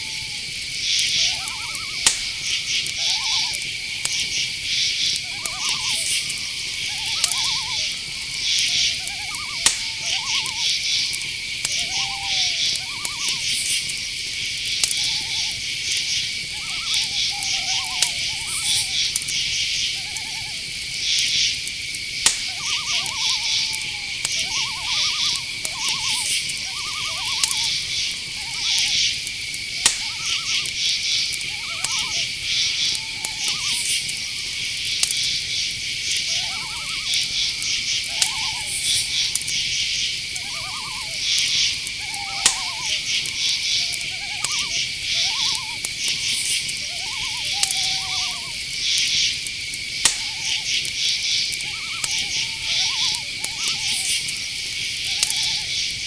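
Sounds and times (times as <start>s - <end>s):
crickets trilling: 0.0s - 56.0s
insects chirping in rapid pulses: 0.0s - 56.0s
night animal calls: 0.0s - 56.0s
sharp clicks: 0.4s - 56.0s.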